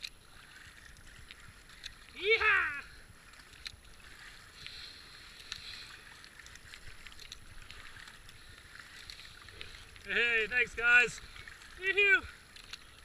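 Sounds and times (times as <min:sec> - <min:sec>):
paddle entering water: 0:00.0 - 0:13.0
water washing along kayak hull: 0:00.0 - 0:13.0.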